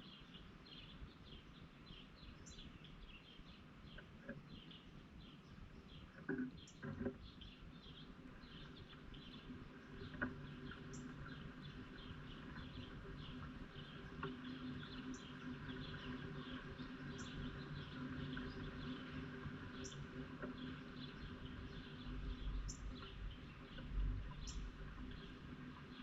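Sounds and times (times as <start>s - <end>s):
steady low hum: 3.9s - 26.0s.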